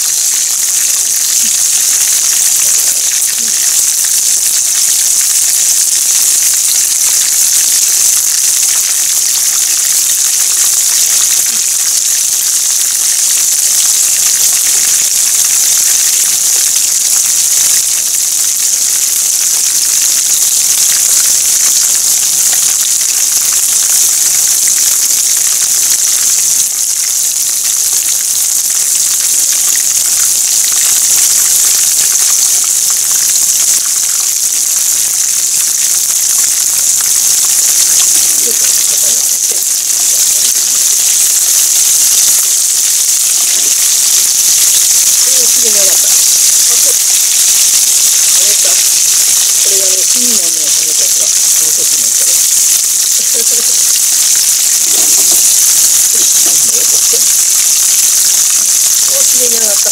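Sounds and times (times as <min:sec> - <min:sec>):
food deep-frying in oil: 0:00.0 - 0:59.9.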